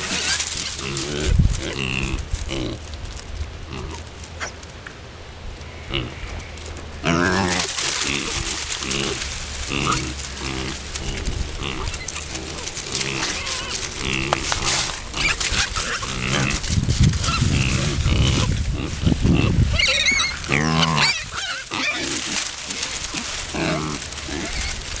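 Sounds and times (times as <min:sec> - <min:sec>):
baby pigs grunting: 0:00.0 - 0:02.8, 0:03.6 - 0:04.5, 0:05.7 - 0:25.0.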